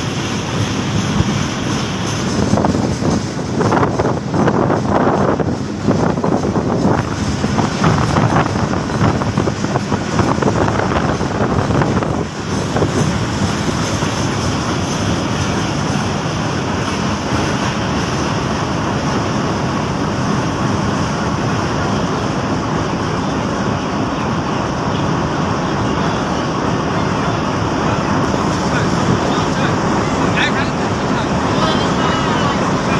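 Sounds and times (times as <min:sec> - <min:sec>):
train clattering on rails: 0:00.0 - 0:32.9.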